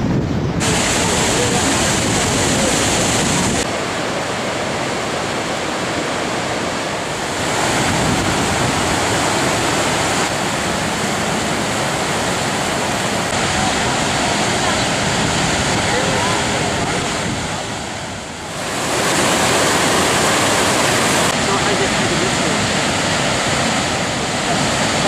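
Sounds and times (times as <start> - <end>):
wind buffeting microphone: 0.0 - 3.7, 5.9 - 25.0
rushing white water: 0.0 - 25.0.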